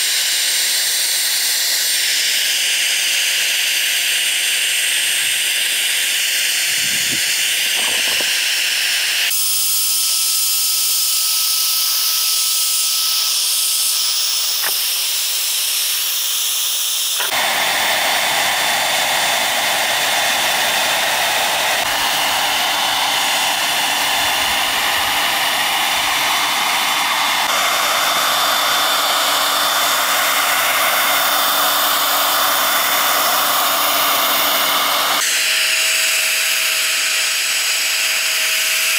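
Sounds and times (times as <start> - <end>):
rushing air hiss from tool: 0.0 - 38.1.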